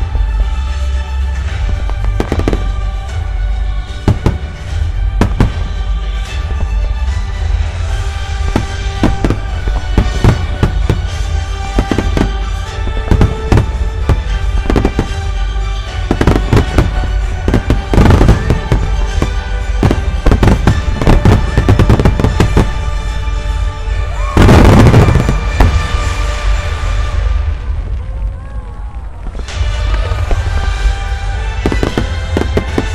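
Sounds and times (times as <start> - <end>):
fireworks bursting: 0.0 - 32.9
music playing: 0.0 - 32.9.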